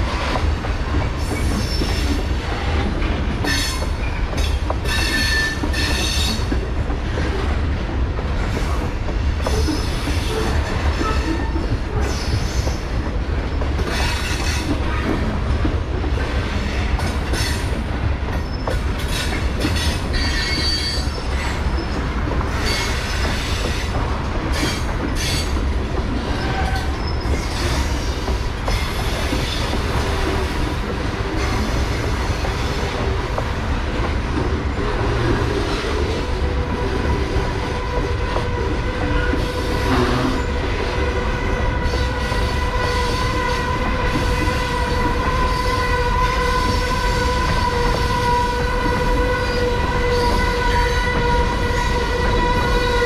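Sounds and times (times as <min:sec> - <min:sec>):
train rolling low rumble: 0:00.0 - 0:53.0.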